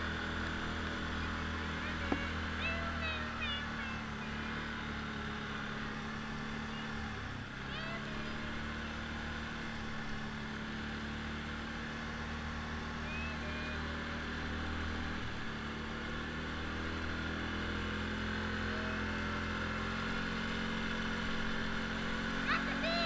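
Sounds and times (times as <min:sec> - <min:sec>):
quad bike engine running: 0:00.0 - 0:23.0.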